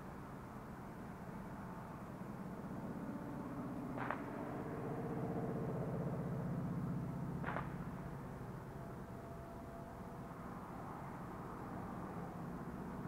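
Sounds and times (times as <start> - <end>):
passing vehicle hum: 0.9 - 13.0.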